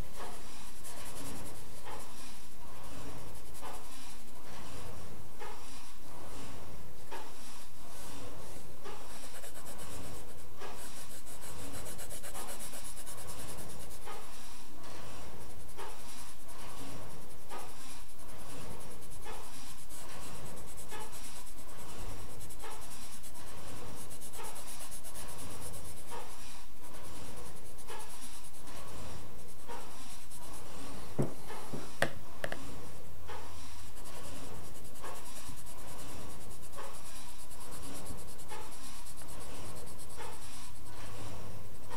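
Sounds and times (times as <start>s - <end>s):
pencil shading on paper: 0.0s - 4.9s, 7.9s - 32.8s, 33.5s - 41.9s.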